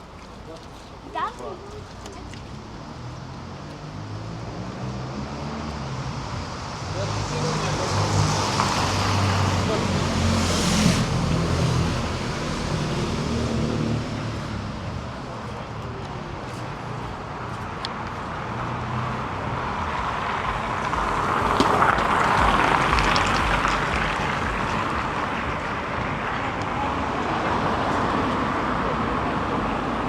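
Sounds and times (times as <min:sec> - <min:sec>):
passing cars: 0:00.0 - 0:30.0.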